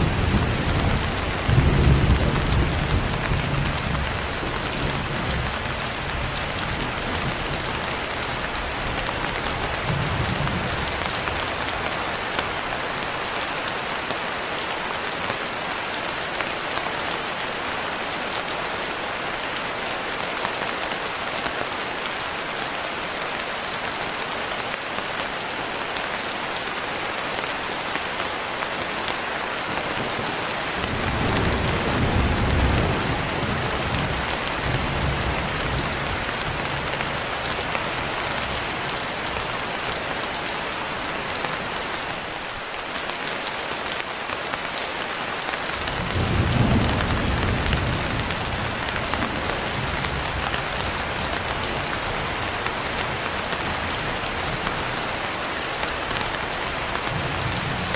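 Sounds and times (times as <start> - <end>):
heavy rain hissing: 0.0 - 57.9.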